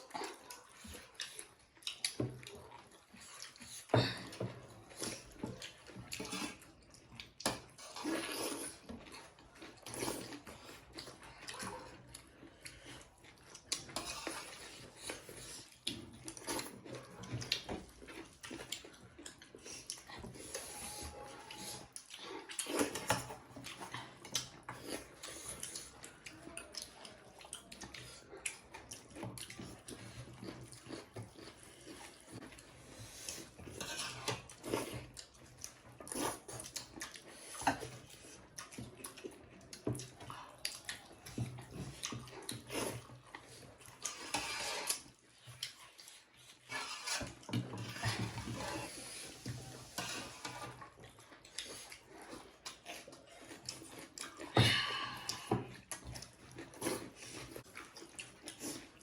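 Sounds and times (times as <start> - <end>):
chewing and wet mouth sounds: 0.0 - 59.0.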